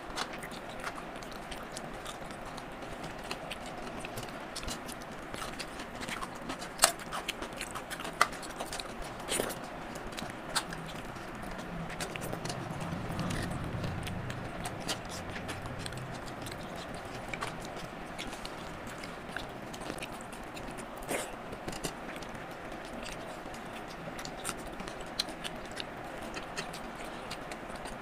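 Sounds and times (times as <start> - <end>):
chewing: 0.0 - 28.0.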